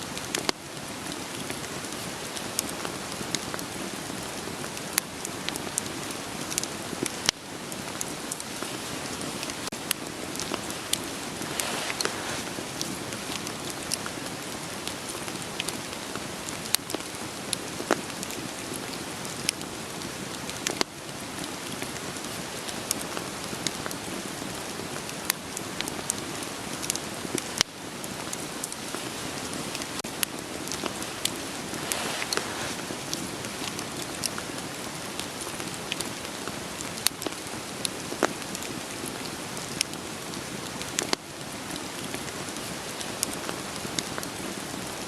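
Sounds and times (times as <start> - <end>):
steady rain falling: 0.0 - 45.0
wood fire crackling: 0.1 - 45.0.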